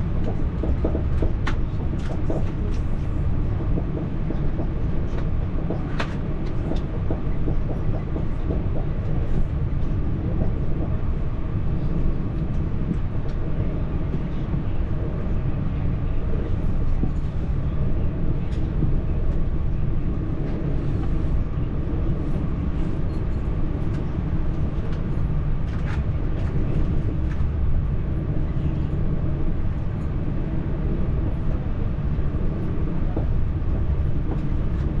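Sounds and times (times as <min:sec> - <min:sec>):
train rumble inside carriage: 0:00.0 - 0:35.0.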